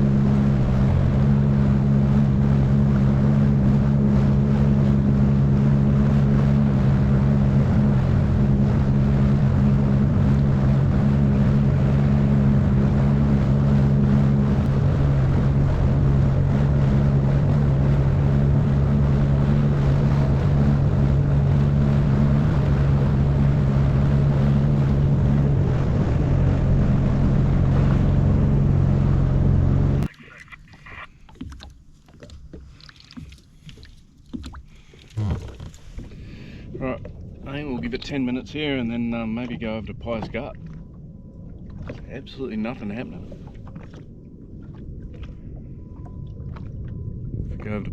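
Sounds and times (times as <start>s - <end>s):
wind on microphone: 0.0s - 30.1s, 35.2s - 47.9s
jet ski engine running: 0.0s - 47.9s.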